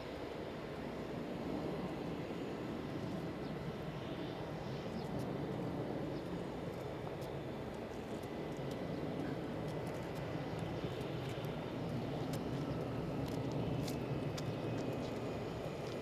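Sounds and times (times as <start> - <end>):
distant jet engines running: 0.0 - 16.0.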